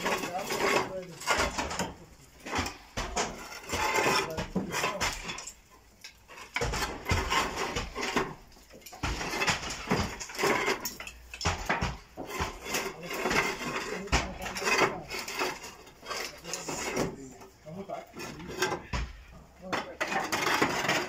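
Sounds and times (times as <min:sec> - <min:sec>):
knocks against wooden battens: 0:00.0 - 0:05.4, 0:06.4 - 0:17.2, 0:18.2 - 0:21.0
roof tiles clinking: 0:00.0 - 0:21.0.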